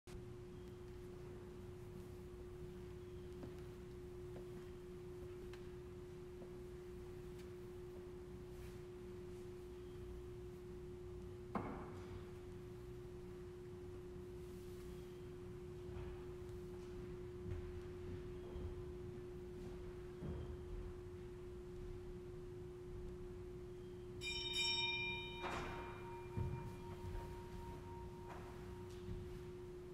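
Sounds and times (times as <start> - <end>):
steady single-pitched hum: 0.1 - 29.9.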